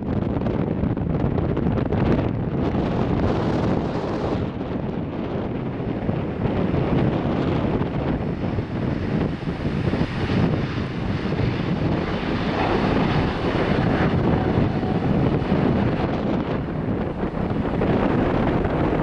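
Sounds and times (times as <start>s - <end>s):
jet engine rumble: 0.0s - 19.0s
wind buffeting microphone: 0.0s - 19.0s.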